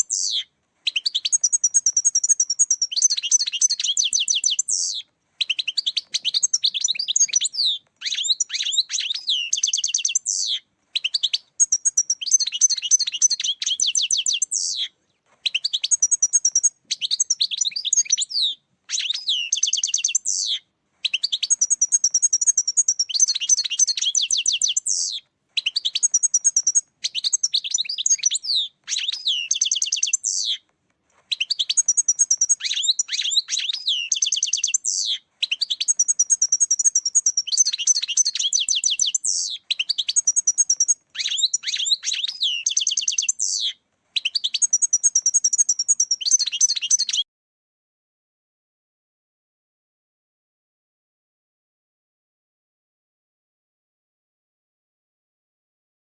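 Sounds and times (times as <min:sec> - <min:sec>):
goldfinch twittering song: 0:00.0 - 0:30.6, 0:31.3 - 0:47.2.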